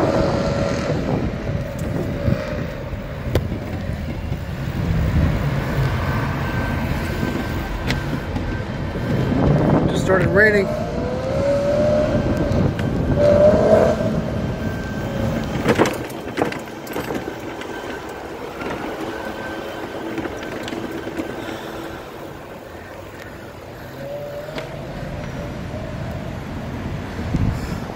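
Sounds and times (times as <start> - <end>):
car engine accelerating: 0.0 - 27.6.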